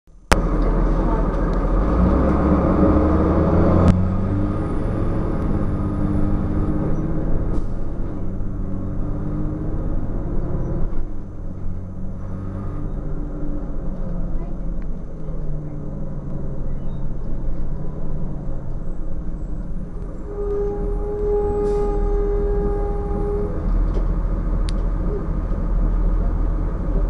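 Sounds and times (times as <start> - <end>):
diesel bus engine running: 0.1 - 27.0.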